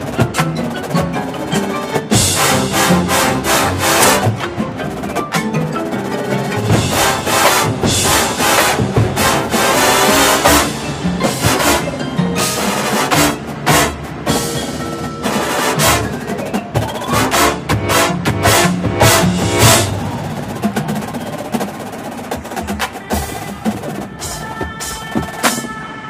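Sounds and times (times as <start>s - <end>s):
mallet keyboards: 0.0s - 21.9s
drum and bugle corps playing: 0.0s - 26.0s.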